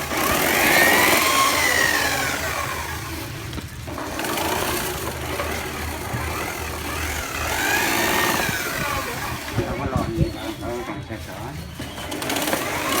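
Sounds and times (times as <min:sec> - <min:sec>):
electric drill motor whining: 0:00.0 - 0:13.0.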